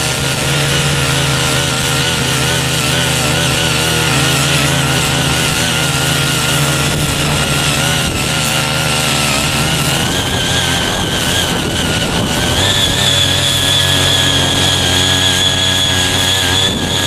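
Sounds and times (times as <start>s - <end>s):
cultivator engine running: 0.0s - 17.0s.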